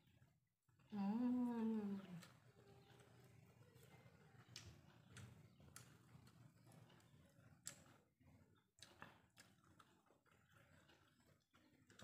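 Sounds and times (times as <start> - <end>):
mouth clicks and smacks chewing: 2.2 - 12.0.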